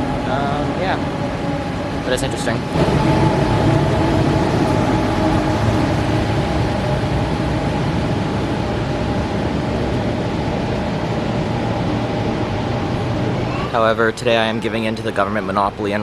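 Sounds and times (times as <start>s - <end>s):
high-speed train rumbling past: 0.0s - 16.0s.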